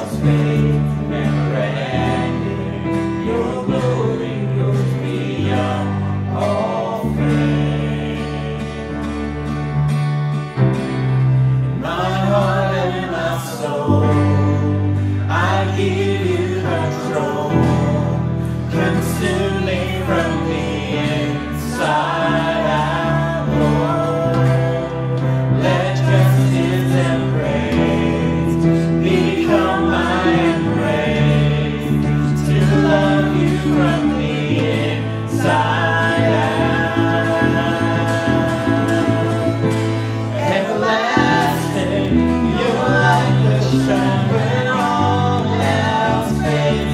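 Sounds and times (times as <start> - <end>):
instrumental backing: 0.0 - 46.9
voices singing worship song: 0.0 - 46.9.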